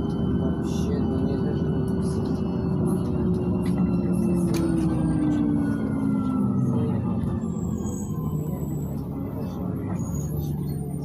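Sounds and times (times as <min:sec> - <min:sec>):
bus engine and tyres rumbling: 0:00.0 - 0:11.0.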